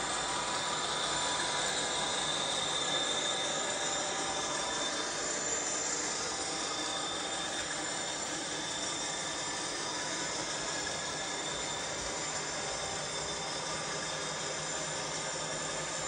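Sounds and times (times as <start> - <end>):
drone propellers whirring: 0.0 - 16.0.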